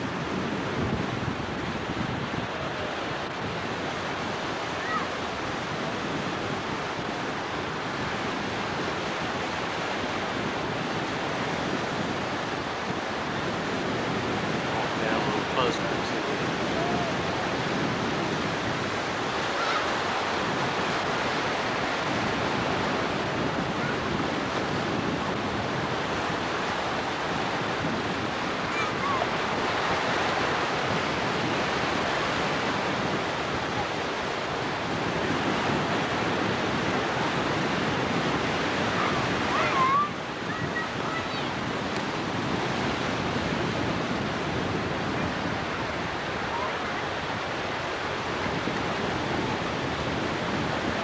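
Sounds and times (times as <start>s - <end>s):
ocean surf breaking: 0.0s - 51.0s
wind on microphone: 0.0s - 51.0s.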